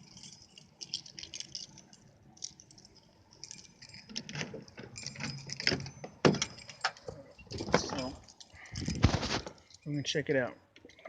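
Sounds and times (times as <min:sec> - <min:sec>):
keys jingling and clicking: 0:00.0 - 0:10.0.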